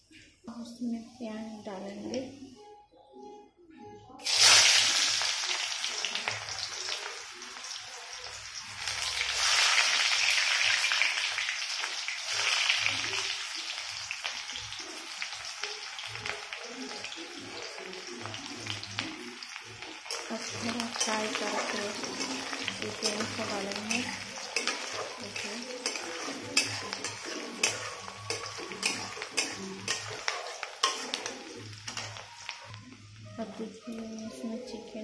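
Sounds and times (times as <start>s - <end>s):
onions sizzling in hot oil: 4.2s - 35.0s.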